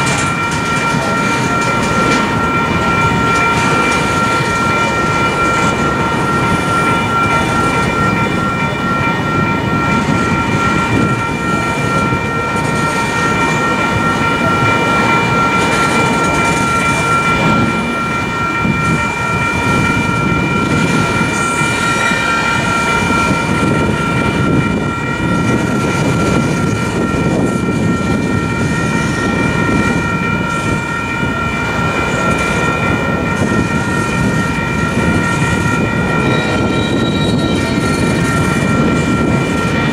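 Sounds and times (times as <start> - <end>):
crossing warning bell ringing: 0.0 - 39.9
freight train wheels rumbling on rails: 0.0 - 39.9.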